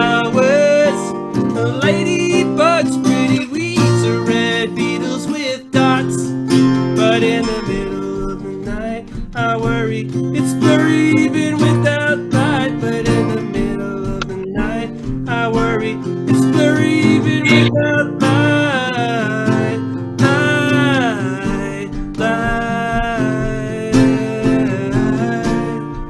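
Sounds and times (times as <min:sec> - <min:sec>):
acoustic guitar strumming: 0:00.0 - 0:26.0
person singing: 0:00.0 - 0:26.0.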